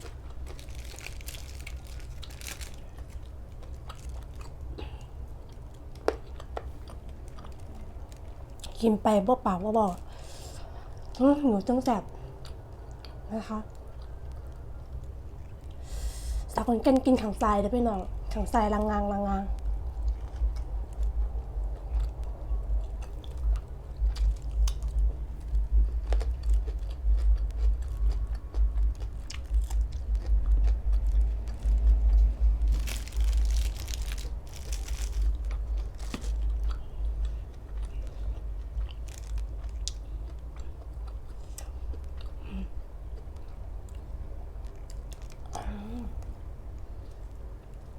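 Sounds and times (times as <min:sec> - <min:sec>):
chewing and crunching food: 0:00.0 - 0:16.1, 0:16.9 - 0:47.9.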